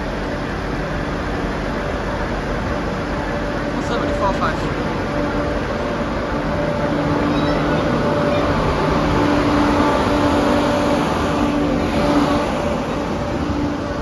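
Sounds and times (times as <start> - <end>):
low hum: 0.0 - 14.0
train diesel engines droning: 0.0 - 14.0.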